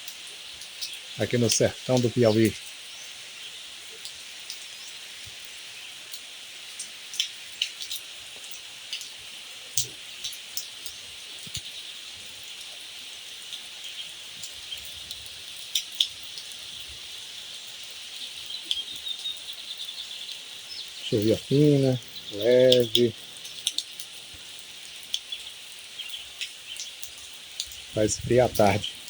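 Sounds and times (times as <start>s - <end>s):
light rain falling: 0.0s - 29.0s
raindrops hitting close by: 0.0s - 29.0s.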